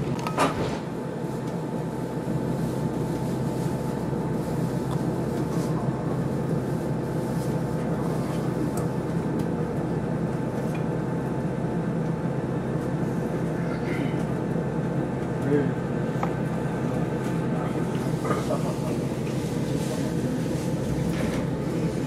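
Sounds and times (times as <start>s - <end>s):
diesel railcar engine droning: 0.0s - 22.0s.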